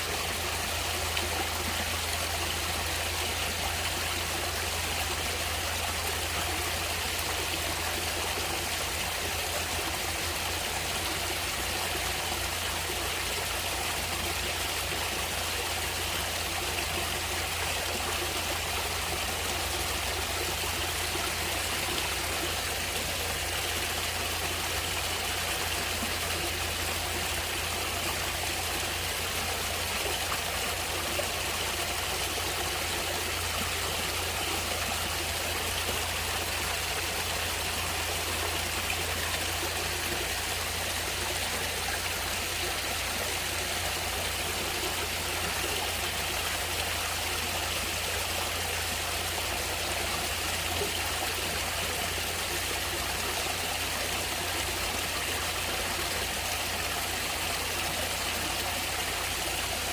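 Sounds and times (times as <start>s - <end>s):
stream of water rushing: 0.0s - 59.9s.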